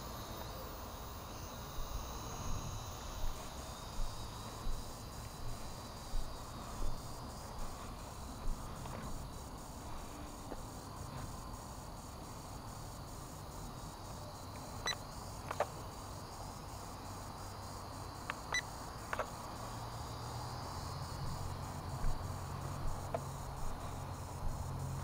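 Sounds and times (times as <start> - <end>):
faint background hum: 0.0 - 25.0.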